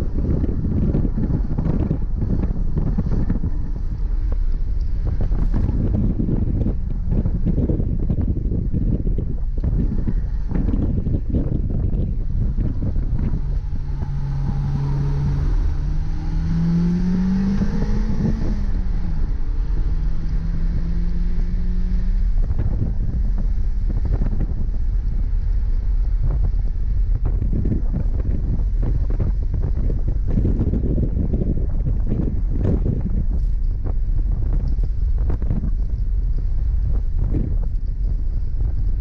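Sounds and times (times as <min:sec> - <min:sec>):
road rumble: 0:00.0 - 0:39.0
wind noise: 0:00.0 - 0:39.0
car engine revving: 0:00.1 - 0:33.5.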